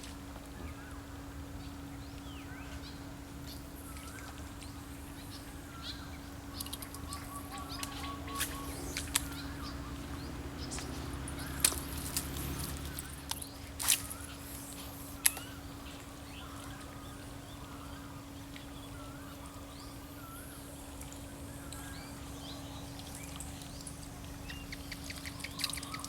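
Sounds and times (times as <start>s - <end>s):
steady low hum: 0.0s - 26.0s
birds chirping: 0.6s - 26.0s.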